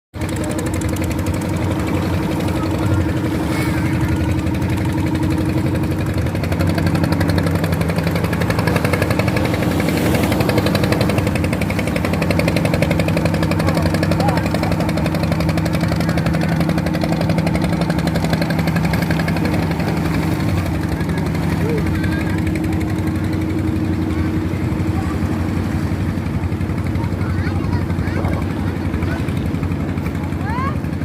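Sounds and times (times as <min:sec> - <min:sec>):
boat engine pulsing: 0:00.1 - 0:31.0.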